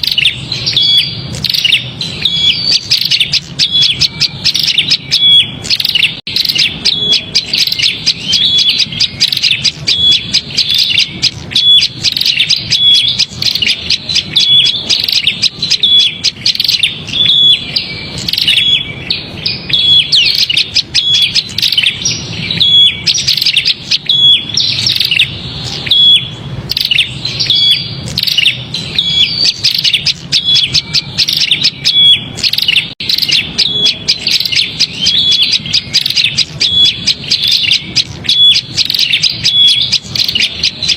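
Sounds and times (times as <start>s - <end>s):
rapid bird chirps: 0.0s - 40.9s.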